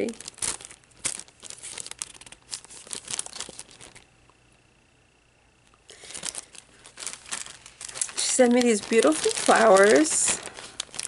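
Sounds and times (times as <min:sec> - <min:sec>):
plastic packaging crinkling: 0:00.0 - 0:04.1, 0:05.9 - 0:11.0.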